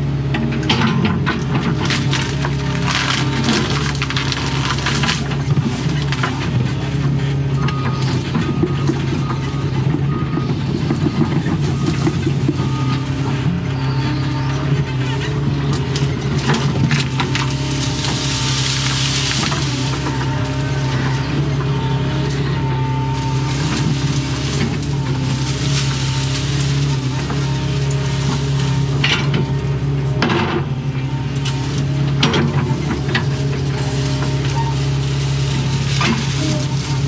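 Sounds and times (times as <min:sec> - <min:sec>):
excavator diesel engine: 0:00.0 - 0:37.0
wood cracking and snapping: 0:01.2 - 0:07.1, 0:10.7 - 0:37.0.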